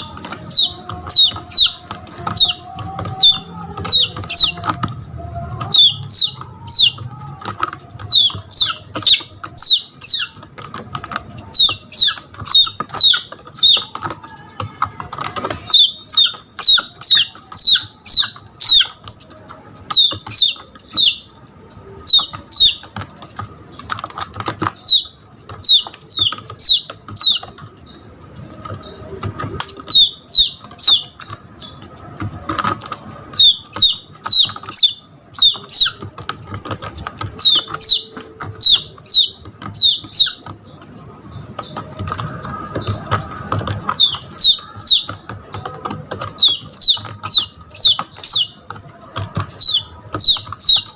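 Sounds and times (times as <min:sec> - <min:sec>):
chick peeping: 0:00.0 - 0:50.9.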